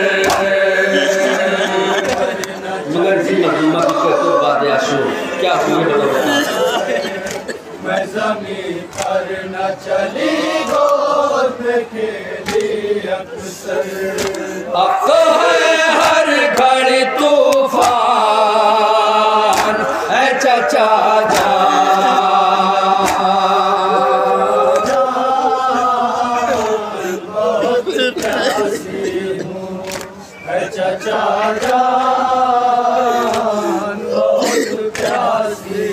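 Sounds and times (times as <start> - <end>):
men chanting a lament: 0.0 - 35.9.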